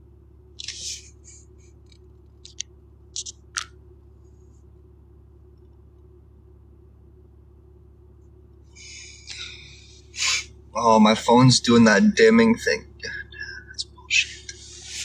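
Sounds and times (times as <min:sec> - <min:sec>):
truck cabin hum: 0:00.0 - 0:15.0.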